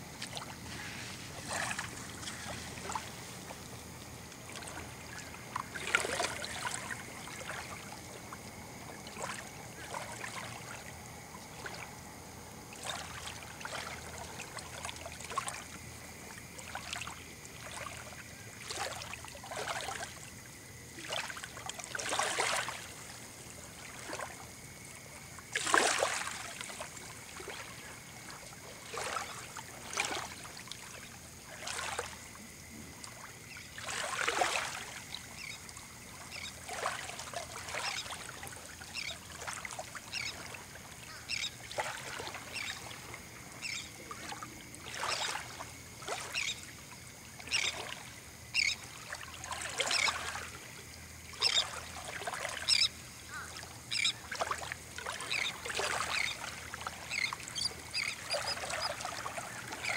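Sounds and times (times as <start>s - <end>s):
small waves lapping on sand: 0.0s - 59.9s.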